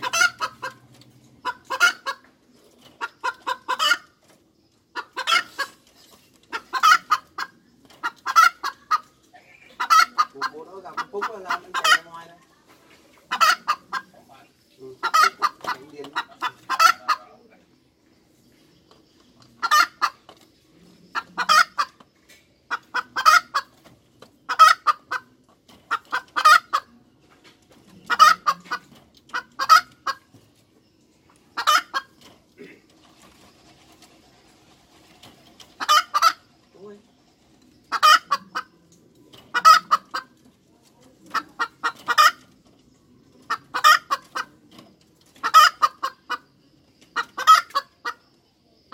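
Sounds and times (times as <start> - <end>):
hen clucking: 0.0 - 48.9.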